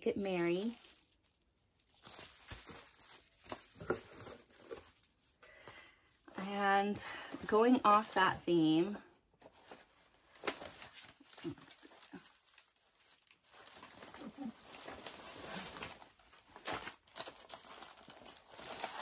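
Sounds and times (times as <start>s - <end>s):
packaging rustling and crinkling: 0.3s - 5.4s, 7.2s - 19.0s.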